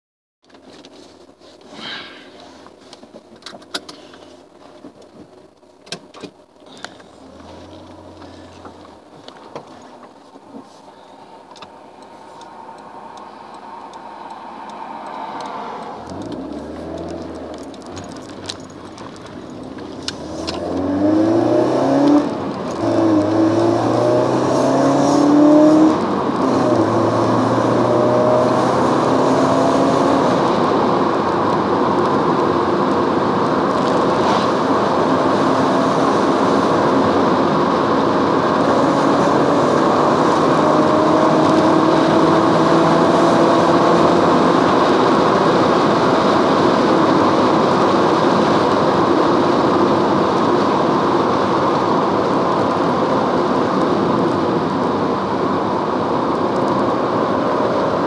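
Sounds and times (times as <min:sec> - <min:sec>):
car engine revving: 0:06.6 - 0:58.0.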